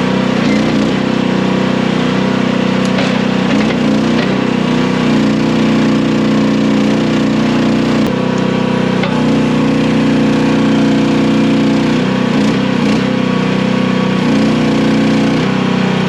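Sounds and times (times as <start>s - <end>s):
small gasoline engine running: 0.0s - 16.0s.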